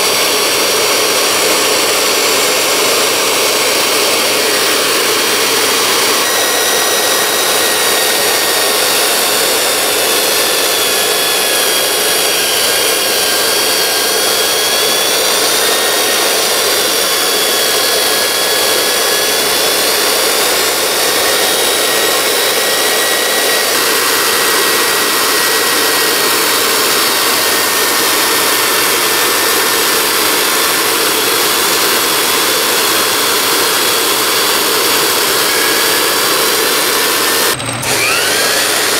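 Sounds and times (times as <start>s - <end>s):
grinder hissing grind and whine: 0.0s - 38.9s.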